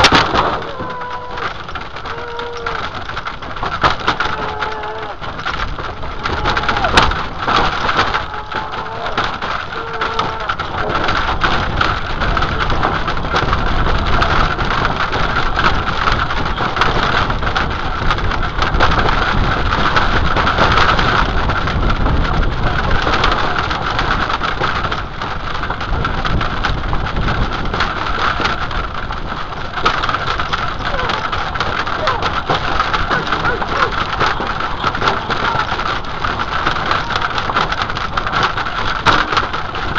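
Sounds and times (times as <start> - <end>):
horses' hooves on dirt: 0.0 - 39.9
wind on microphone: 0.0 - 39.9.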